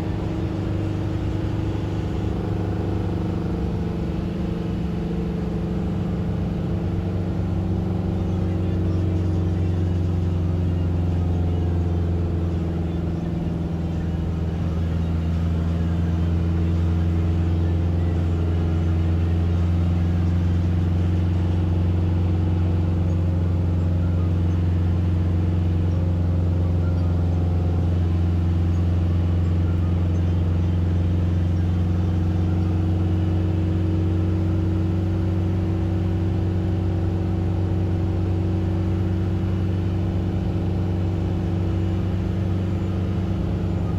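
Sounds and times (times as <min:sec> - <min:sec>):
vehicle cabin engine and road drone: 0:00.0 - 0:43.9.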